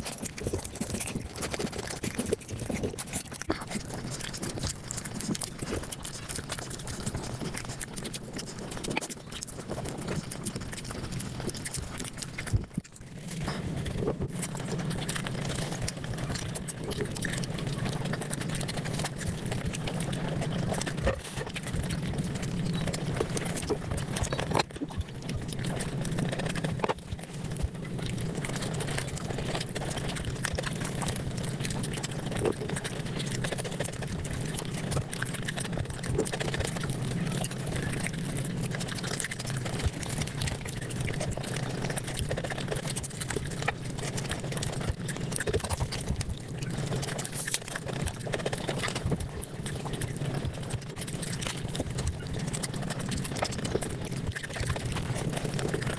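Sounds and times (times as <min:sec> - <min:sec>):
rapid chewing and mouth smacking: 0:00.0 - 0:55.9.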